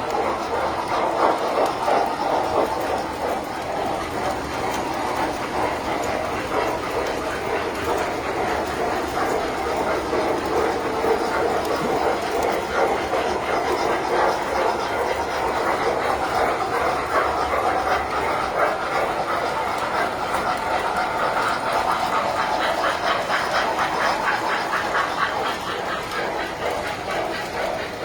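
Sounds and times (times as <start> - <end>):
model trains rolling rumble: 0.0 - 28.0
wheels clicking on rails: 0.0 - 28.0.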